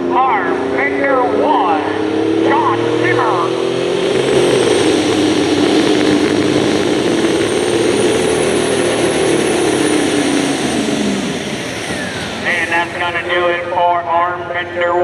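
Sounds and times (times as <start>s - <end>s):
diesel truck engine roaring: 0.0s - 15.0s.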